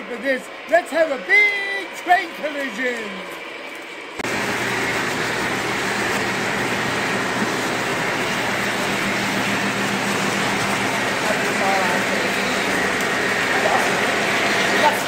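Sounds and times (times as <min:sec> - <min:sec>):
model train rumbling: 0:00.1 - 0:15.0.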